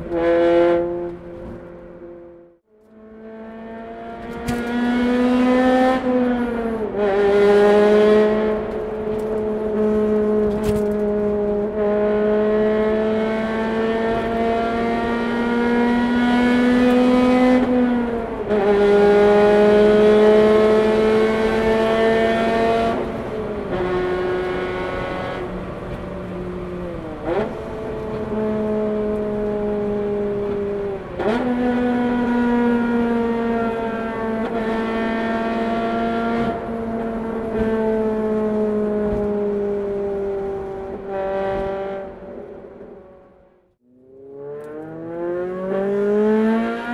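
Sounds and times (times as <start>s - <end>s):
car engine and exhaust in tunnel: 0.0s - 46.9s.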